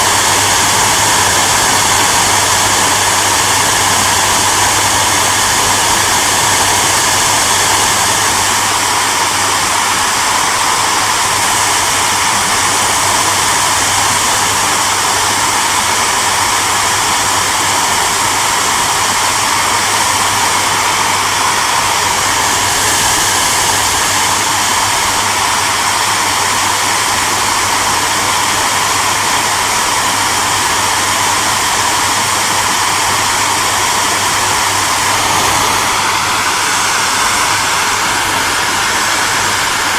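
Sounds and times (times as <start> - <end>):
hairdryer fan rushing air: 0.0 - 39.9.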